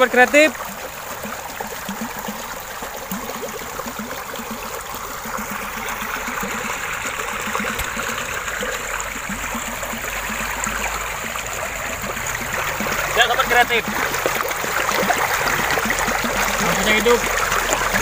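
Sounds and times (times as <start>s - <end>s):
fast-flowing water rushing: 0.0s - 18.0s
water turbine paddles churning: 0.0s - 18.0s.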